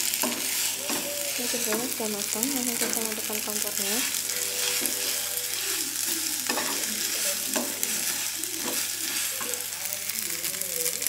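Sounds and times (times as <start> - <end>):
metal spatula stirring: 0.0 - 9.9
sausages sizzling in frying pan: 0.0 - 11.0.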